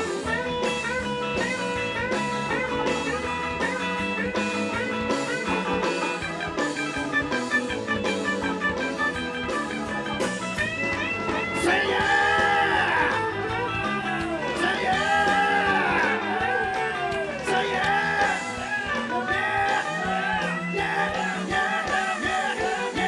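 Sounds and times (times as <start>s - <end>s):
lead guitar bending notes: 0.0s - 22.3s
live blues-rock band: 0.0s - 23.0s.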